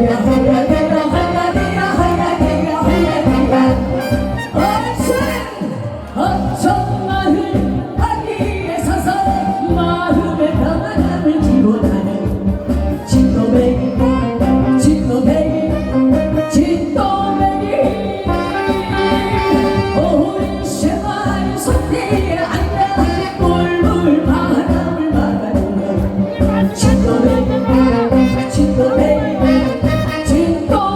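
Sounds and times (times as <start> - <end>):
instrumental accompaniment with beat: 0.0 - 30.9
woman singing: 0.0 - 30.9.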